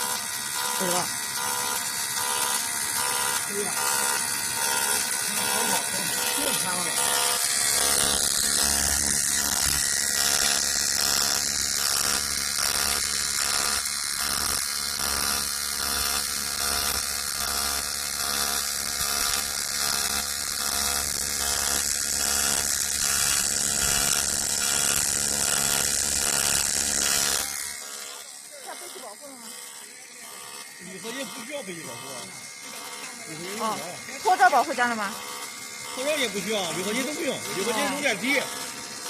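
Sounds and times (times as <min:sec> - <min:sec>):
welding arc buzz and hiss: 0:00.0 - 0:39.0.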